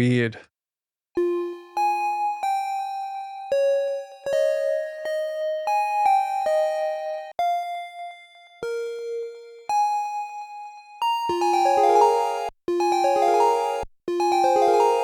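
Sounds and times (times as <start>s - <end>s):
synthesizer lead melody: 1.2s - 15.0s.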